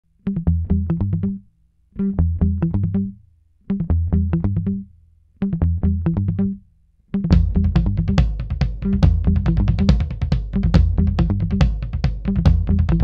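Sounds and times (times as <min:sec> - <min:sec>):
low bass: 0:00.3 - 0:03.2, 0:03.8 - 0:13.0.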